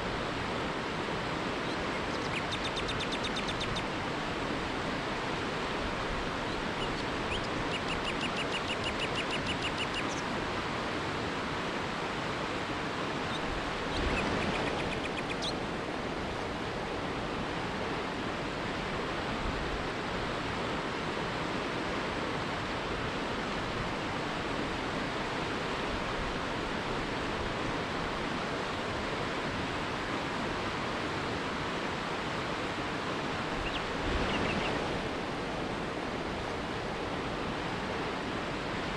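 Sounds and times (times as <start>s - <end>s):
river rapid rushing: 0.0s - 38.9s.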